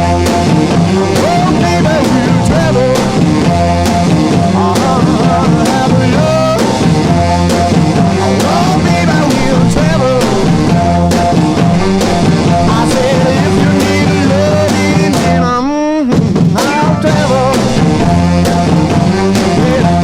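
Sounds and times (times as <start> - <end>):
rock music with singing: 0.0 - 20.0.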